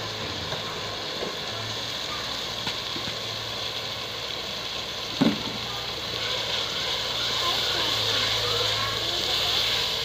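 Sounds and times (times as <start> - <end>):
masala sizzling in metal pot: 0.0 - 10.0.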